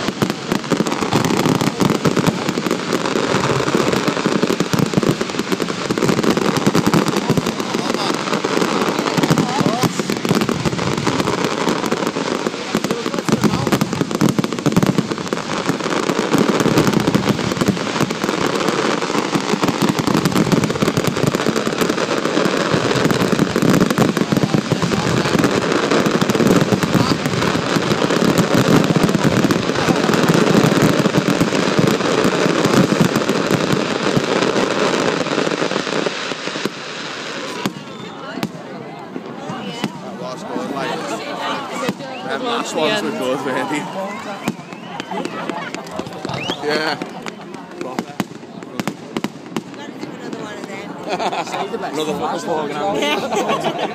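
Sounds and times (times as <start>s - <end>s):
fireworks crackling and banging: 0.0s - 53.9s.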